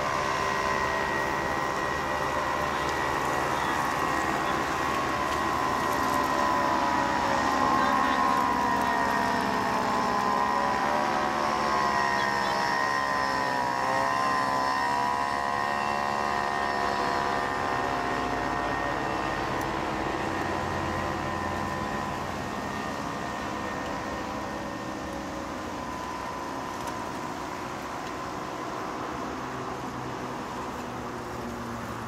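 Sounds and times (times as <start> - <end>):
motor traffic humming: 0.0 - 32.0.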